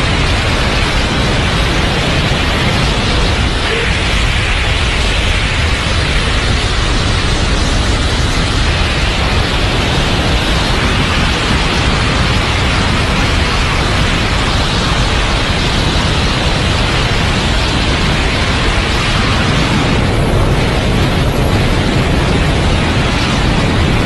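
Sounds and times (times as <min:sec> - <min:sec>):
jet aircraft roar: 0:00.0 - 0:24.0.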